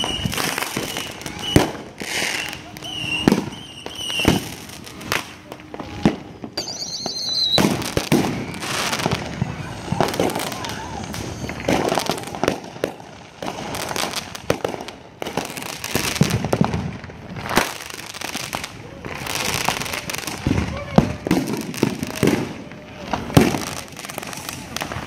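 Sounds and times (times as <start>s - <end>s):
firework whistle: 0.0s - 16.7s, 17.4s - 25.0s
fireworks bangs and crackles: 0.0s - 25.0s.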